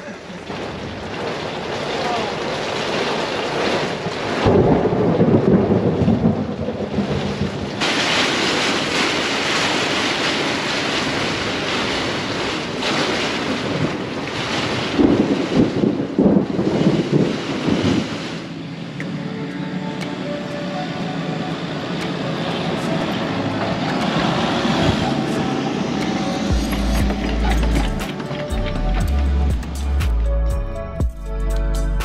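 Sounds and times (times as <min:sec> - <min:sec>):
heavy rain: 0:00.0 - 0:31.0
thunder rumble: 0:00.4 - 0:19.0, 0:21.7 - 0:30.9.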